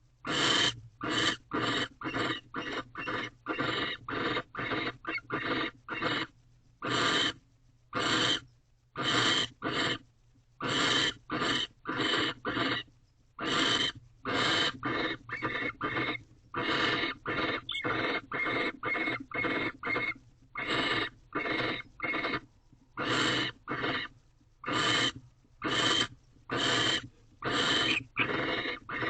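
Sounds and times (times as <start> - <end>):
barn owl hissing calls: 0.3 - 7.4, 8.0 - 10.0, 10.6 - 22.4, 23.0 - 29.0.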